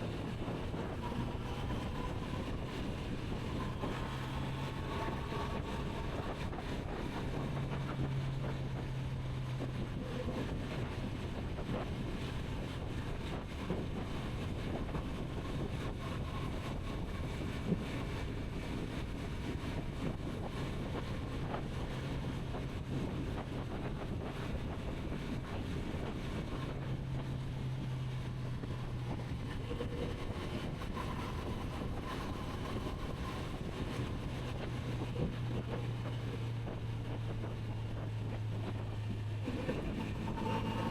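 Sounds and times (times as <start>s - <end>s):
wind rushing on microphone: 0.0s - 40.9s.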